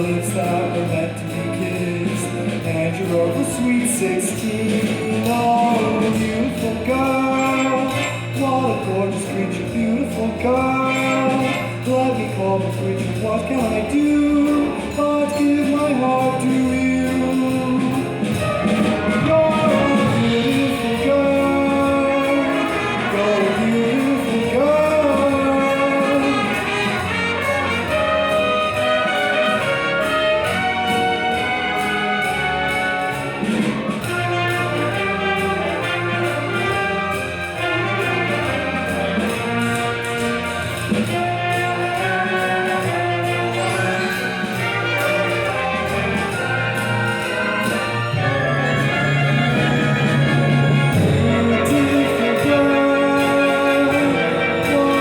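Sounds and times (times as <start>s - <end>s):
orchestral brass music: 0.0s - 55.0s.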